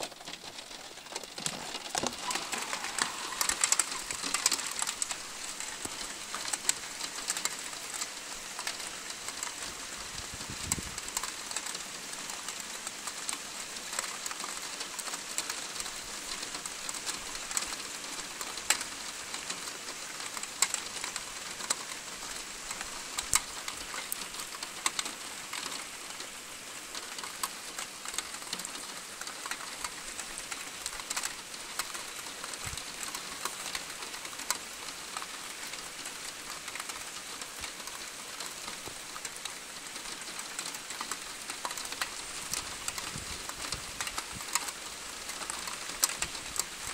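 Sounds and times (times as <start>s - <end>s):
raindrops ticking on a surface: 0.0s - 46.9s
steady rainfall: 0.0s - 46.9s.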